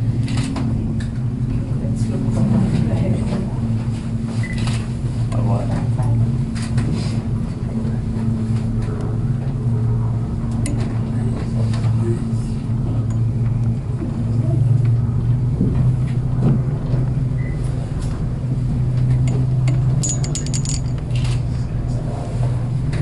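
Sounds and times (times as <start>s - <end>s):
cable car hum and rumble: 0.0s - 23.0s.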